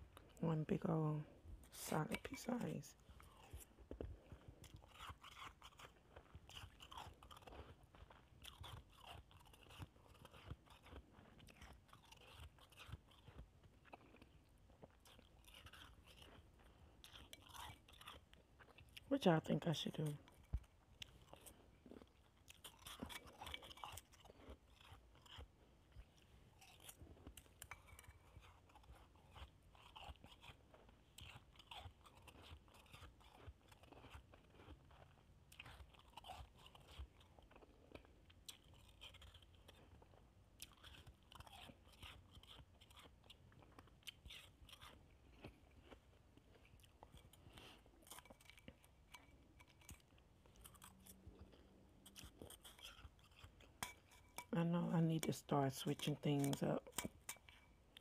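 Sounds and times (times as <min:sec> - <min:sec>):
shaved ice being chewed: 0:00.0 - 0:58.0.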